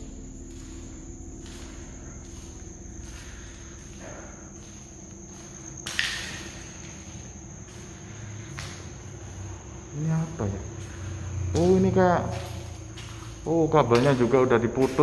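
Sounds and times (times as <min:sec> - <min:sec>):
crickets chirping: 0:00.0 - 0:15.0
faint footsteps: 0:00.0 - 0:15.0.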